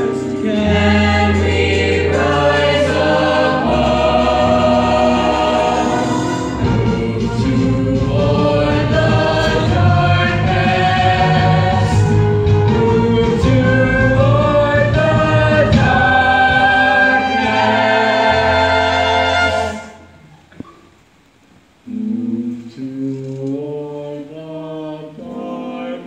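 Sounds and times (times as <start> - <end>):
ensemble singing with accompaniment: 0.0 - 20.5, 21.8 - 26.0.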